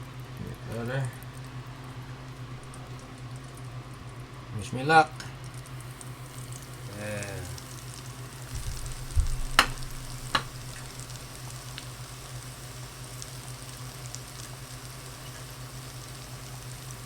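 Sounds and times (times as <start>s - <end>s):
cutlet sizzling in oil: 0.0s - 17.0s.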